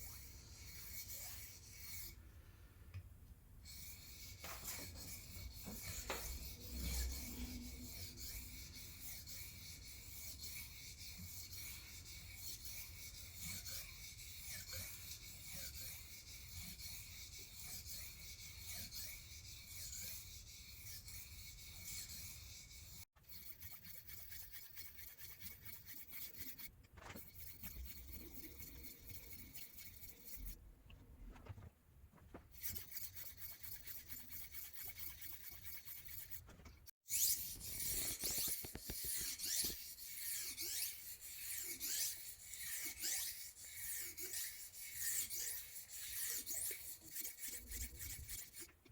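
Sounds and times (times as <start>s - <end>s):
knife scraping on sharpener: 0.0s - 2.2s, 3.6s - 30.6s, 32.5s - 36.5s, 37.1s - 48.8s.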